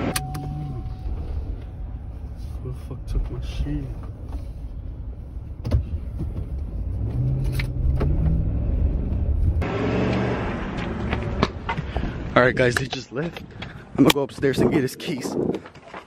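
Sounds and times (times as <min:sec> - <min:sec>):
car engine and road noise: 0:00.0 - 0:14.4.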